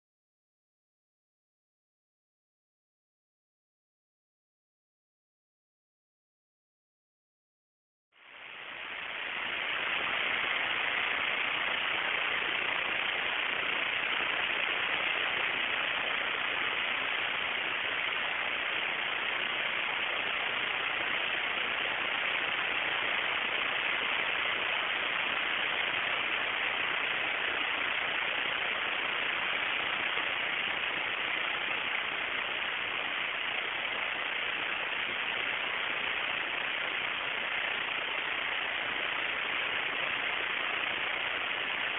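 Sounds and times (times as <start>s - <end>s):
steady hiss: 8.2s - 41.9s.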